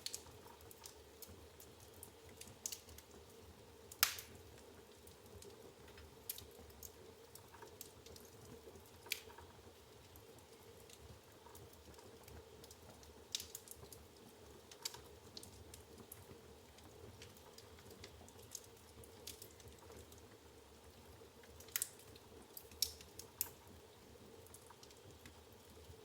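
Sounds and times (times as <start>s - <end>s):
firewood crackling: 0.0s - 3.3s, 3.9s - 20.5s, 21.4s - 25.8s.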